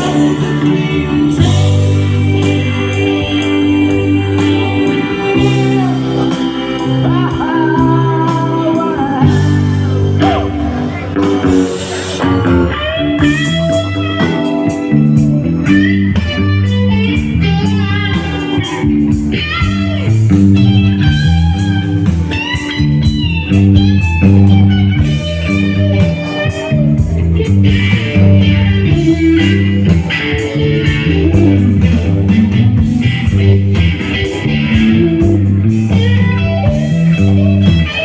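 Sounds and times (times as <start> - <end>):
bass guitar: 0.0 - 38.0
drums: 0.0 - 38.0
electric guitar lead: 0.0 - 38.0.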